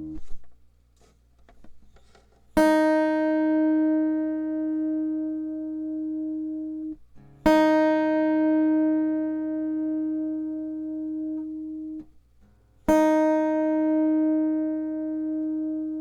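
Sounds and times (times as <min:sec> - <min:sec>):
guitar string plucked and ringing: 0:00.0 - 0:00.4, 0:02.6 - 0:12.1, 0:12.9 - 0:16.0.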